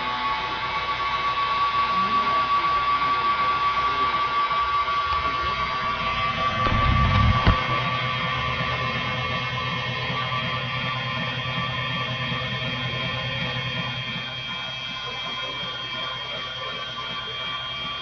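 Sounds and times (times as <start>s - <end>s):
electric stand mixer running: 0.0s - 18.0s.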